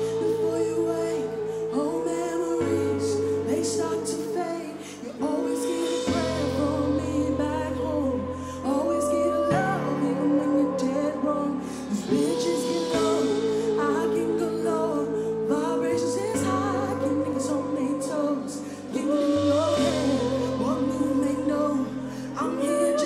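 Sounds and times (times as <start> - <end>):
woman singing with vibrato: 0.0 - 23.0.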